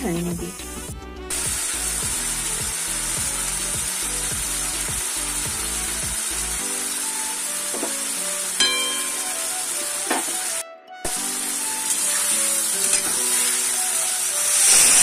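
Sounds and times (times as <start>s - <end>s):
background music with steady beat: 0.0s - 15.0s
cheese sizzling in hot oil: 1.3s - 15.0s.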